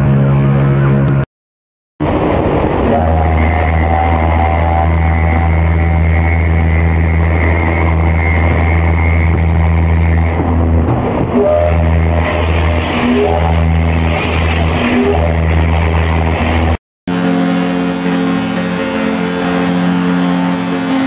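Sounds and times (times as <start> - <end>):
deep ship's horn blast: 2.1 - 21.0.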